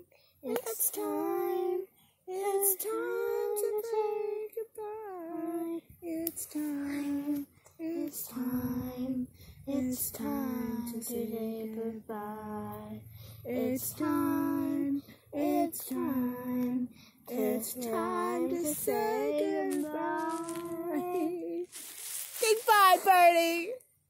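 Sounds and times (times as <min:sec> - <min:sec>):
girl singing: 0:00.0 - 0:23.7.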